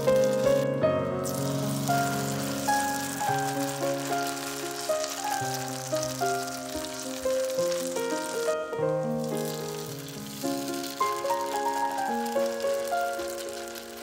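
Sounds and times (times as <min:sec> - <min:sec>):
pancakes sizzling in a pan: 0:00.0 - 0:00.6, 0:01.2 - 0:14.0
background music: 0:00.0 - 0:14.0.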